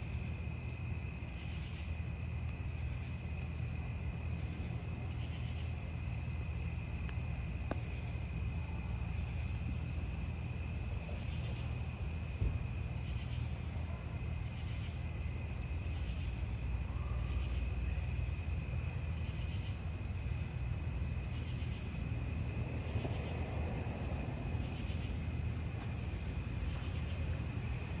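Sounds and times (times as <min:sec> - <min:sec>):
campfire burning: 0:00.0 - 0:28.0
crickets chirping: 0:00.0 - 0:28.0.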